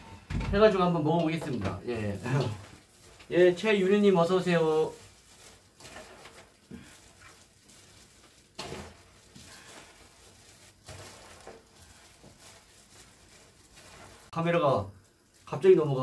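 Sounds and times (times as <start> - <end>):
wet rustling and squelching: 1.2 - 16.0.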